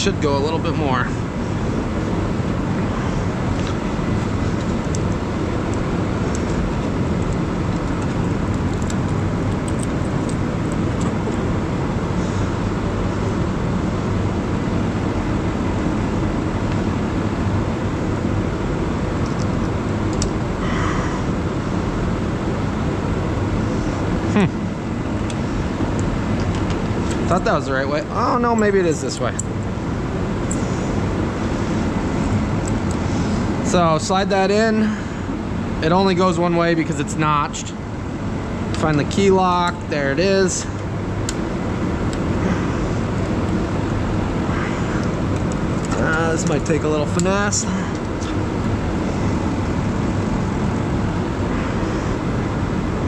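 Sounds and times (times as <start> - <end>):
low rumbling background noise: 0.0 - 53.0.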